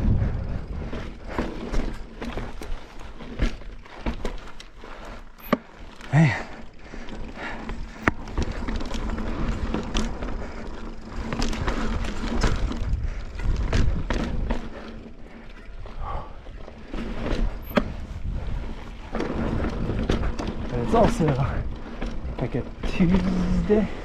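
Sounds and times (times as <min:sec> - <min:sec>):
bike clicks and rattles: 0:00.0 - 0:24.0
bike tyre rumble on rock: 0:00.0 - 0:24.0.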